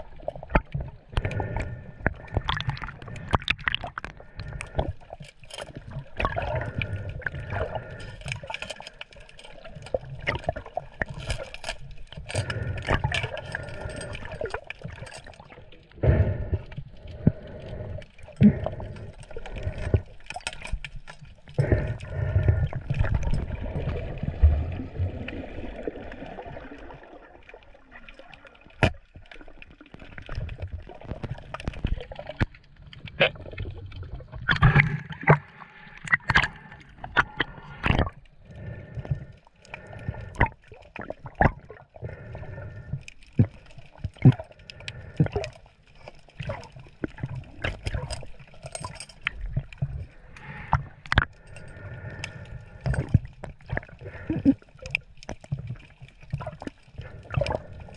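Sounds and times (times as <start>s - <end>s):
seawater sloshing and gurgling: 0.0s - 57.9s.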